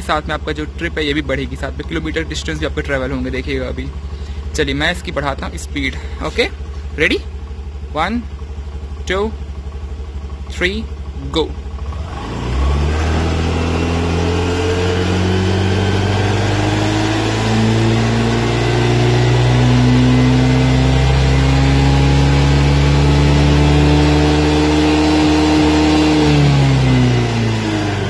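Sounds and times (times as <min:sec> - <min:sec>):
scooter engine revving: 0:00.0 - 0:28.0.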